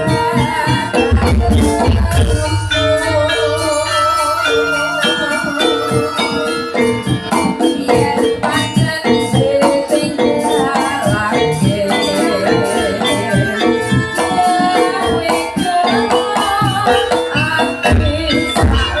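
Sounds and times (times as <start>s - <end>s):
wavering melody: 0.0s - 19.0s.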